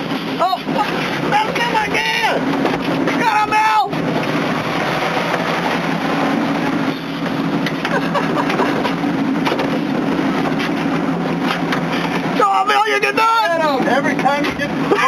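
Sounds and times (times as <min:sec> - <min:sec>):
boat engine running: 0:00.0 - 0:15.0
sea noise: 0:00.0 - 0:15.0
wind: 0:00.0 - 0:15.0.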